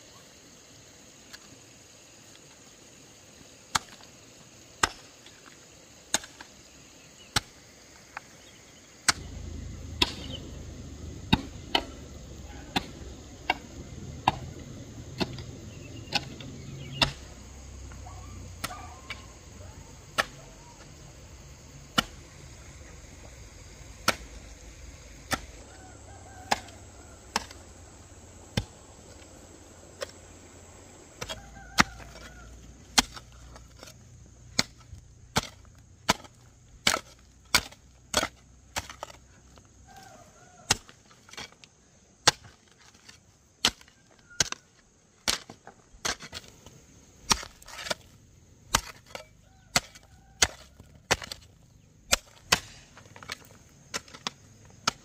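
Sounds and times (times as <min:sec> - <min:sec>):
hoe chopping stony soil: 0:03.7 - 0:07.7, 0:08.4 - 0:55.0.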